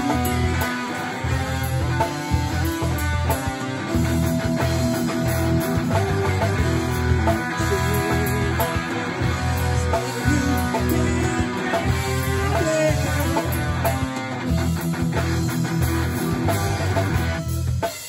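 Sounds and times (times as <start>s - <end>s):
bass guitar: 0.0s - 18.0s
electric guitar: 0.0s - 18.0s.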